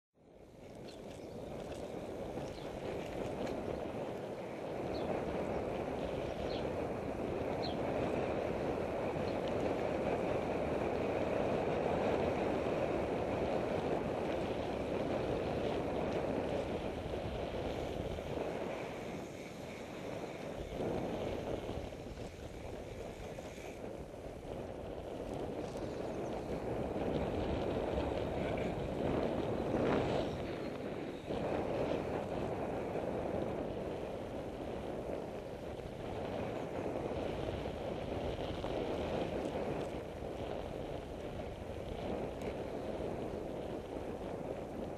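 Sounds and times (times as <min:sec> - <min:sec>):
wind rushing over microphone: 0:00.2 - 0:44.9.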